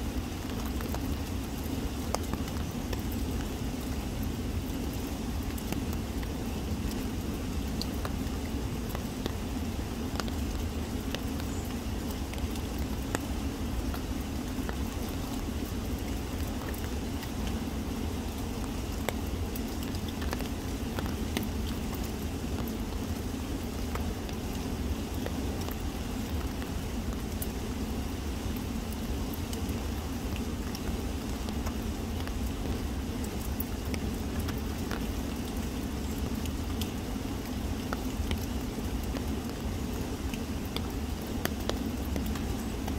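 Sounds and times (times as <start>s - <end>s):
raindrops ticking: 0.0s - 42.9s
river water flowing: 0.0s - 42.9s.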